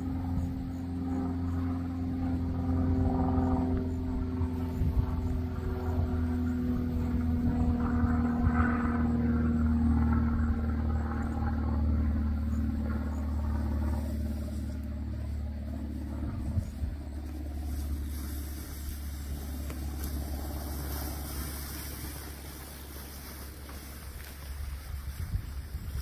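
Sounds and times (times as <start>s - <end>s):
bike tyres rolling through grass: 0.0s - 26.0s
wind rumble on microphone: 0.0s - 26.0s.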